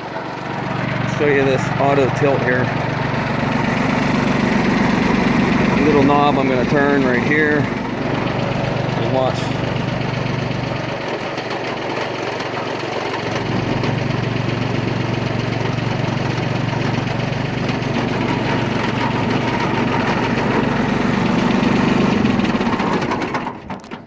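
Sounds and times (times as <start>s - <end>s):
diesel engine idling: 0.0s - 23.8s.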